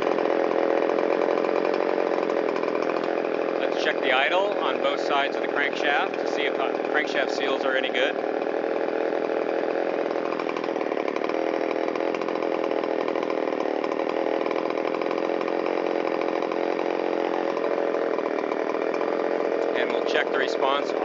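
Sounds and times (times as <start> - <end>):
chainsaw idling: 0.0 - 21.0.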